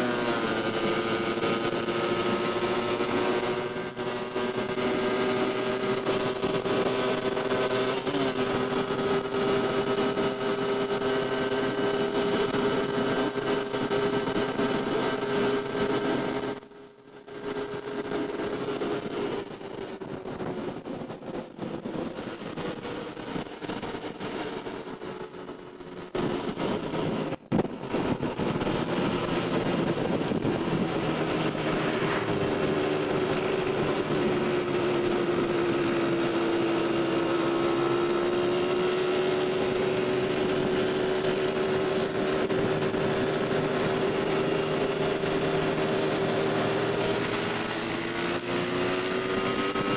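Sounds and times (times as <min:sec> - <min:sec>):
quad bike engine droning: 0:00.0 - 0:49.9.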